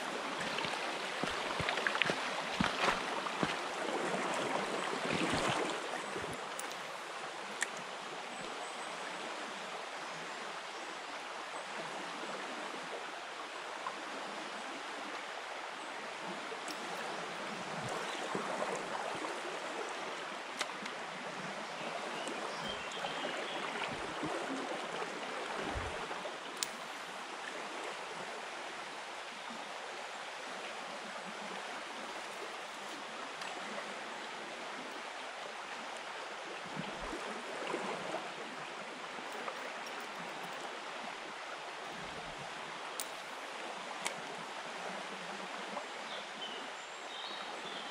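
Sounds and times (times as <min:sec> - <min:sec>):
river flowing over stones: 0:00.0 - 0:47.9.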